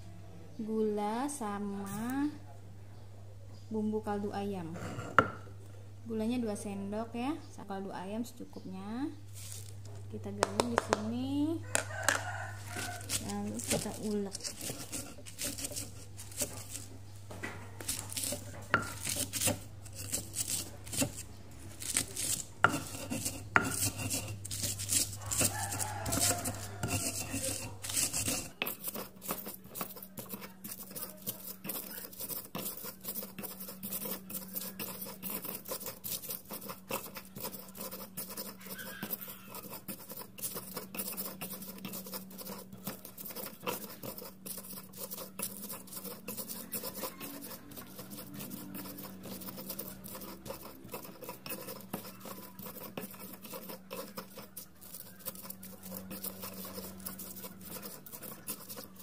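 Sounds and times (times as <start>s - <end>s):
stone pestle grinding on stone: 4.7s - 5.4s, 10.4s - 59.0s.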